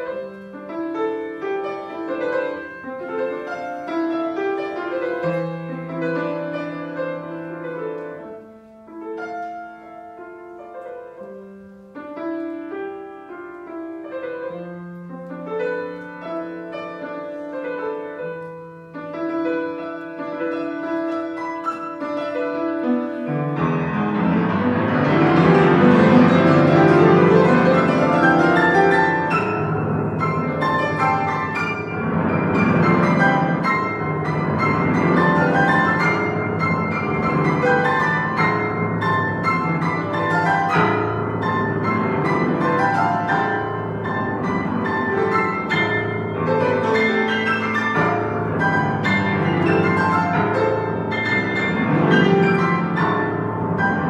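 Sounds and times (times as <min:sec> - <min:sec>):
solo grand piano piece: 0:00.0 - 0:54.0.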